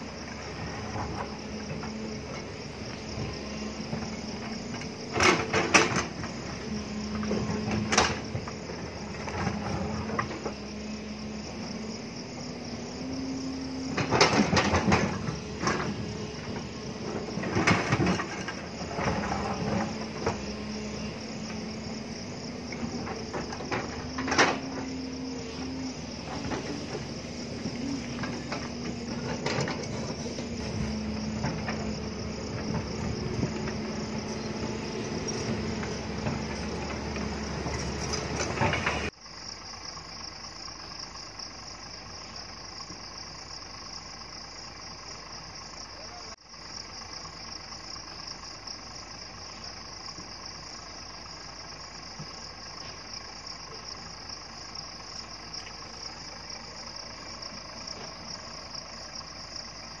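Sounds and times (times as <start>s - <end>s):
excavator diesel engine working: 0.0s - 60.0s
faint engine idle: 0.0s - 60.0s
high insect chorus: 0.0s - 60.0s.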